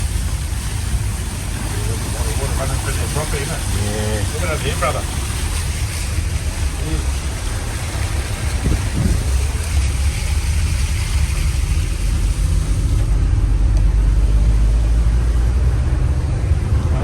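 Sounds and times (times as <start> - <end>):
car driving on wet road: 0.0 - 17.0.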